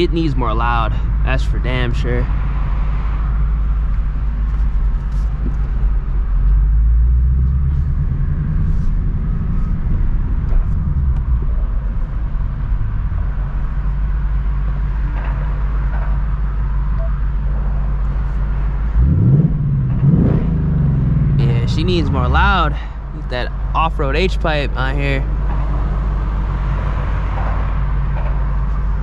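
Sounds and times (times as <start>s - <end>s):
car engine droning while driving: 0.0s - 29.0s
road noise: 0.0s - 29.0s.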